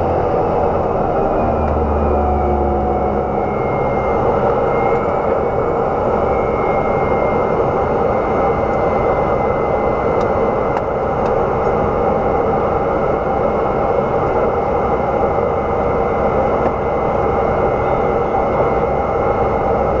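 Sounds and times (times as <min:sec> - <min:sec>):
turboprop engine running: 0:00.0 - 0:20.0.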